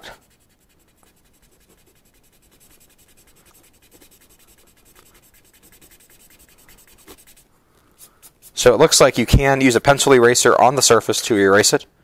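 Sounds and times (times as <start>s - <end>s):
eraser rubbing on plastic: 0.0s - 10.0s.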